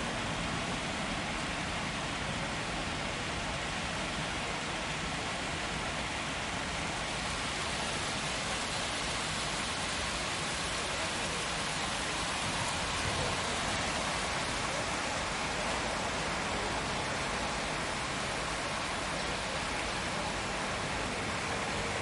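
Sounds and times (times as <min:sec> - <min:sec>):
waterfall splashing into basin: 0:00.0 - 0:22.0.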